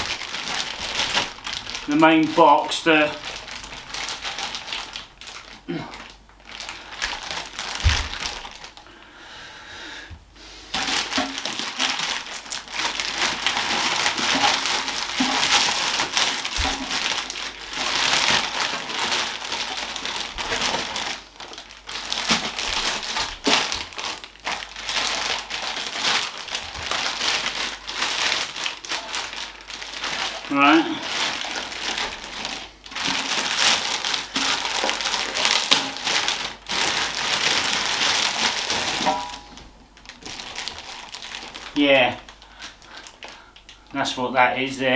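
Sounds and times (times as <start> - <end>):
plastic bag crinkling: 0.0 - 9.1, 10.7 - 44.9.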